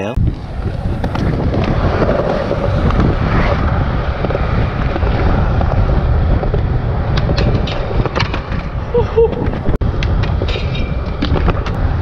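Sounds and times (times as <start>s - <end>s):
skateboard wheels rolling on concrete: 0.1s - 12.0s
wind buffeting microphone: 0.1s - 12.0s.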